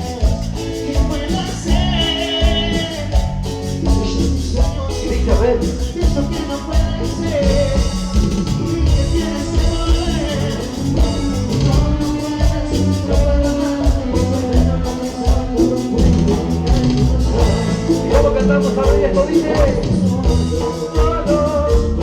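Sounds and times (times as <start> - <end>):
latin dance band playing: 0.0 - 22.0.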